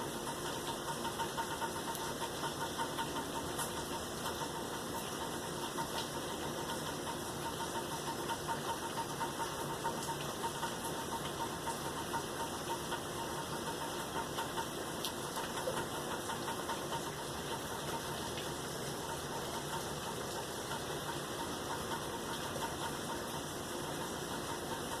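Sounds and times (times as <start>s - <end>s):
raindrop ticks: 0.0s - 25.0s
steady rain falling: 0.0s - 25.0s.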